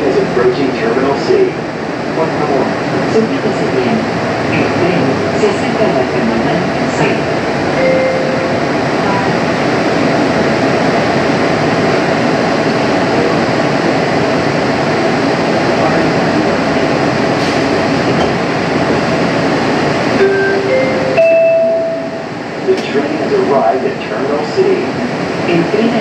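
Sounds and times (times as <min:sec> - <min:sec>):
train car rumble and hum: 0:00.0 - 0:26.0.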